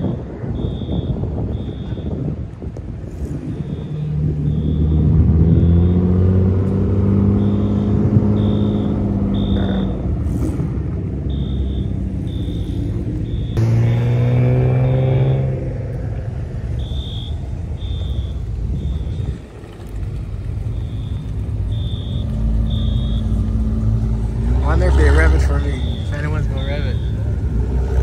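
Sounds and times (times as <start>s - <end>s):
car engines accelerating: 2.4s - 28.0s.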